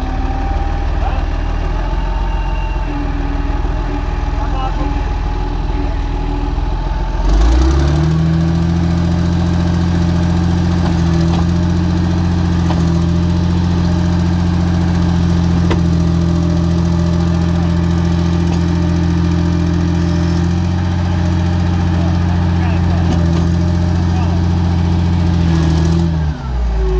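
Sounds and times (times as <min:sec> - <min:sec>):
heavy machine engine running: 0:00.0 - 0:26.9.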